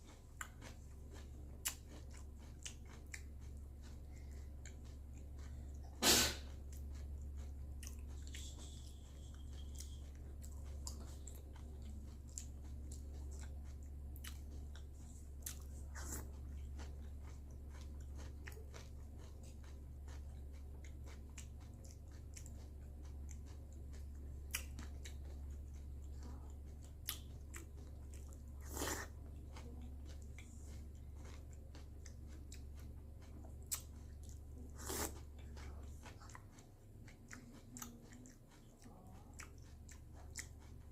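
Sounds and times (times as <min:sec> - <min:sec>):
person chewing crunchy cereal: 0:00.0 - 0:40.9
steady low hum: 0:00.0 - 0:40.9.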